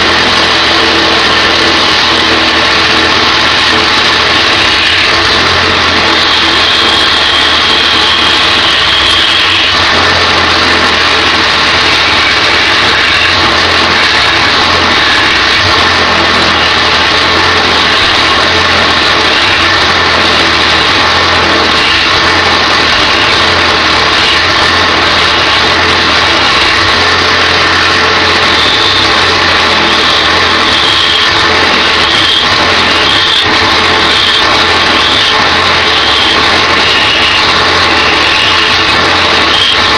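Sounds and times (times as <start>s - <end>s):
lathe motor hum: 0.0s - 39.9s
turning tool scraping wood: 0.0s - 39.9s.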